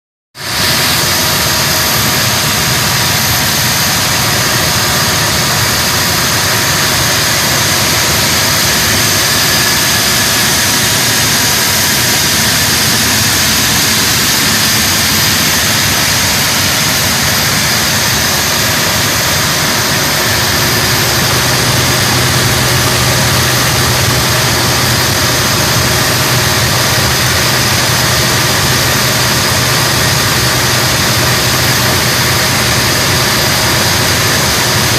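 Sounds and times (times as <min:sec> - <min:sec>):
engine running with high whine: 0:00.4 - 0:34.9
deep steady hum: 0:00.5 - 0:34.9.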